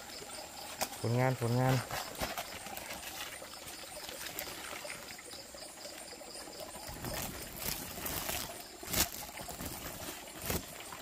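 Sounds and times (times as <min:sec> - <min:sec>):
pulsing insect chirp: 0:00.0 - 0:11.0
water trickling and pouring: 0:00.0 - 0:11.0.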